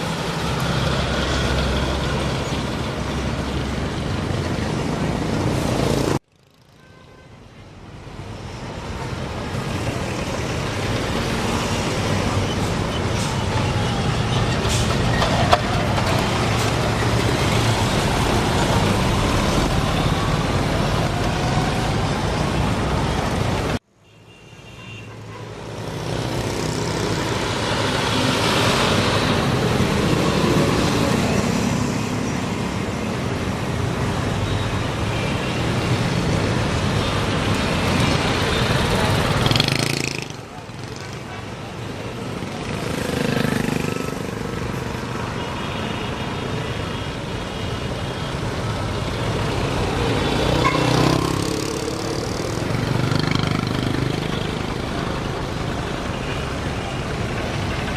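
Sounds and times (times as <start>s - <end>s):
road traffic rumble: 0.0s - 57.9s.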